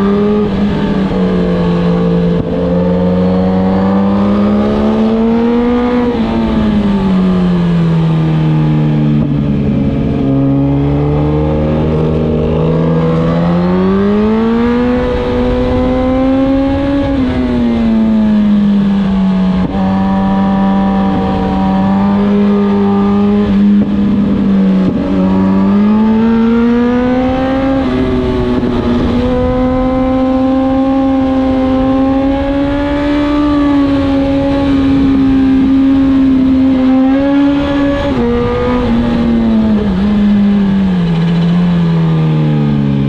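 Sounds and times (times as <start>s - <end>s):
wind rush: 0.0s - 41.3s
motorcycle engine under throttle: 0.0s - 43.0s.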